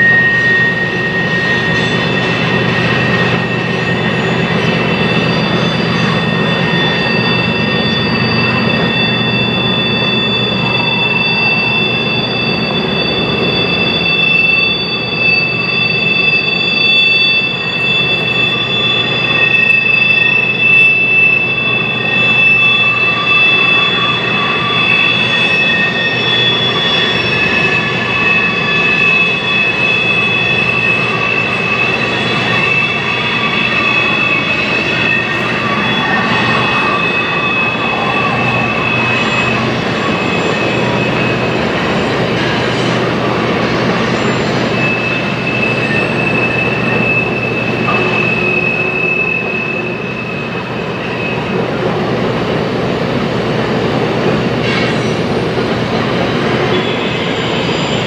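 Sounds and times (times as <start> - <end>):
freight train rumbling: 0.0 - 58.0
wheel flange squeal: 0.0 - 58.0.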